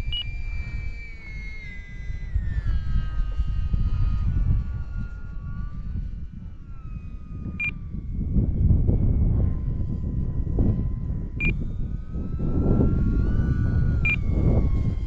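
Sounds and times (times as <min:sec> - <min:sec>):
rc plane motor whining: 0:00.0 - 0:15.0
wind buffeting microphone: 0:00.0 - 0:15.0.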